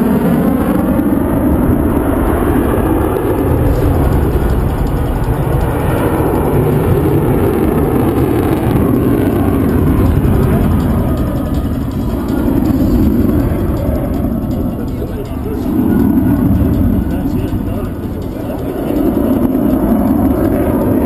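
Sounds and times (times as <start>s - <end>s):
jet engine noise: 0.0s - 21.0s.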